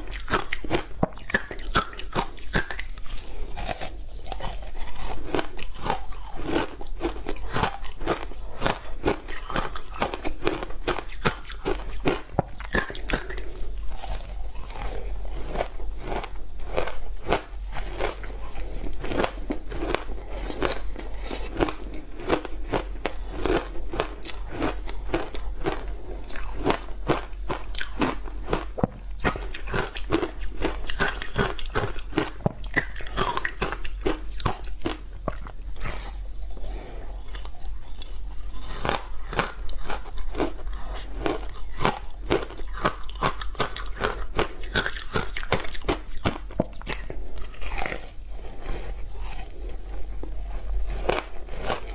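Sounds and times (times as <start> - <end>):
ice crunching while chewed: 0.0 - 51.9.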